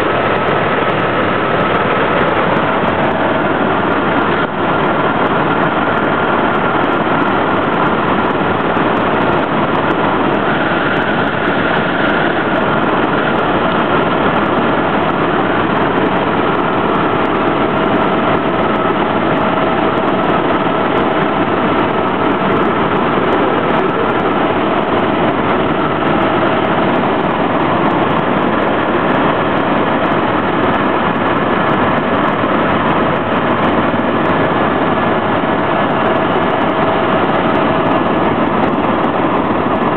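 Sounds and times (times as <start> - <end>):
faint steady whines: 0.0 - 39.9
helicopter engine and rotor: 0.0 - 39.9.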